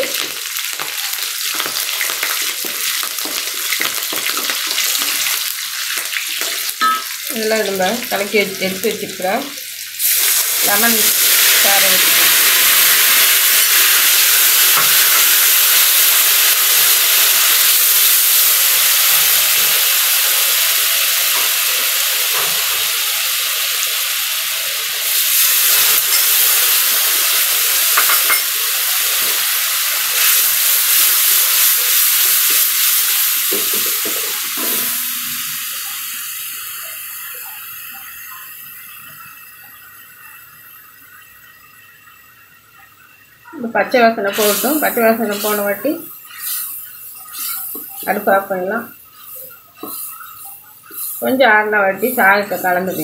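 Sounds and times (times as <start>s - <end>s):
liquid sizzling in hot oil: 0.0s - 53.0s.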